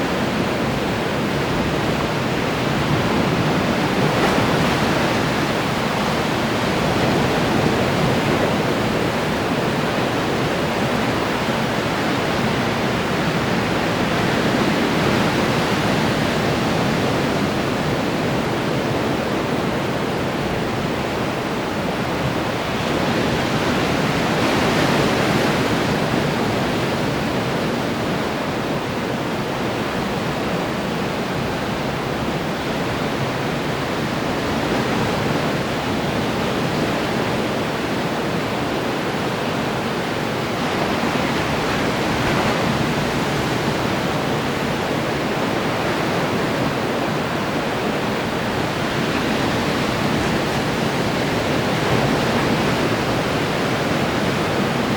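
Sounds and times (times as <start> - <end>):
ocean surf washing ashore: 0.0 - 54.9.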